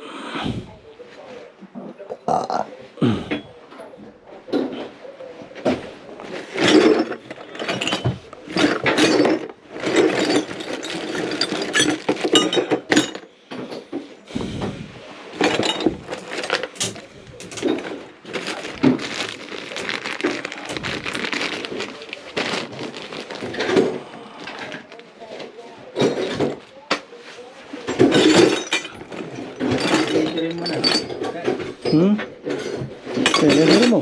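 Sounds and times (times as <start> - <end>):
tools and metal pipes clinking: 3.3 - 14.7, 15.3 - 27.1, 27.8 - 34.0.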